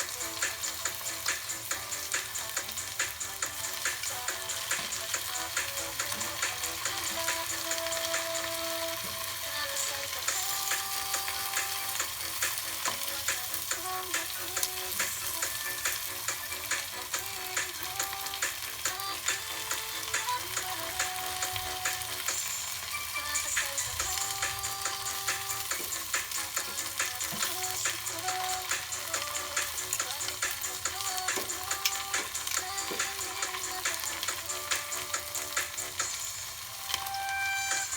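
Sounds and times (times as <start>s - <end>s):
background music: 0.0s - 37.9s
food sizzling in hot oil: 0.0s - 37.9s.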